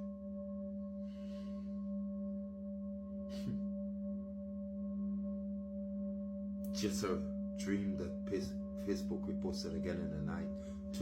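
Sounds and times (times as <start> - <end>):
singing bowl drone: 0.0 - 11.0.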